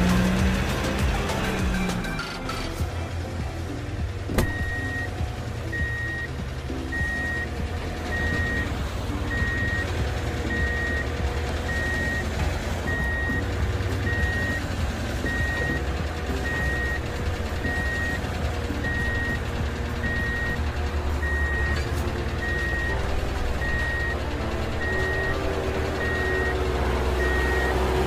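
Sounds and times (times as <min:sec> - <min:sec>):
low engine rumble: 0:00.0 - 0:28.0
truck reversing alarm beeping: 0:04.4 - 0:28.0.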